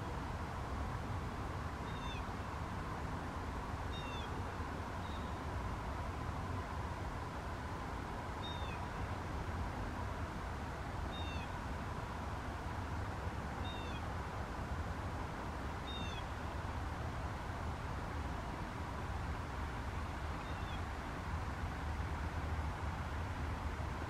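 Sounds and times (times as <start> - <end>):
low rumble and hiss: 0.0 - 24.0.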